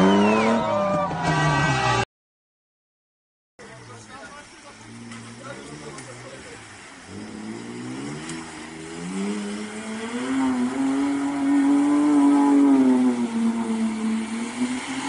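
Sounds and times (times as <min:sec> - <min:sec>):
car engine revving hard: 0:00.0 - 0:02.0, 0:04.8 - 0:15.0.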